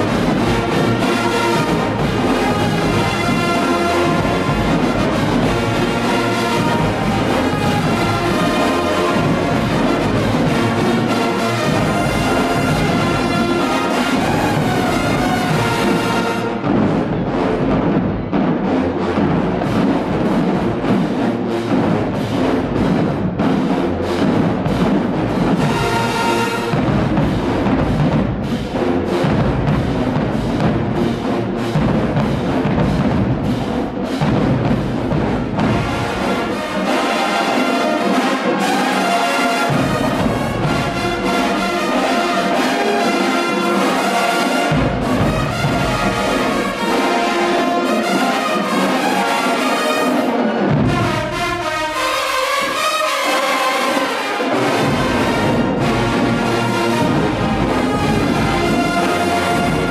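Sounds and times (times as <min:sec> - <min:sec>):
brass band music: 0:00.0 - 0:59.9
heavy drums: 0:00.0 - 0:59.9.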